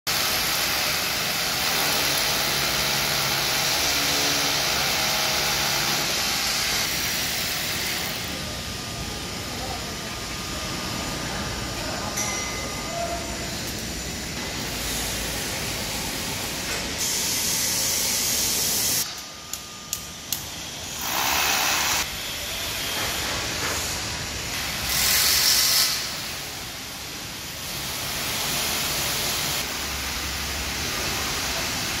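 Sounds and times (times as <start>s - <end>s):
construction site hiss: 0.1s - 32.0s.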